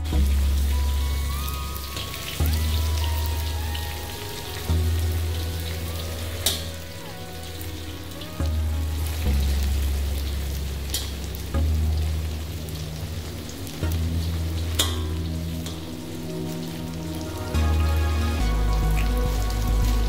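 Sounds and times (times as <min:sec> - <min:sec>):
chicken frying in oil: 0:00.0 - 0:20.0
low background music: 0:00.0 - 0:20.0.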